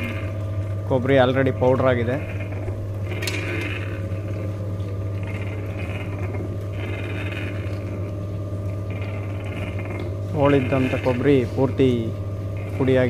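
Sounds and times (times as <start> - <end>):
oil mill drive hum: 0.0 - 13.0.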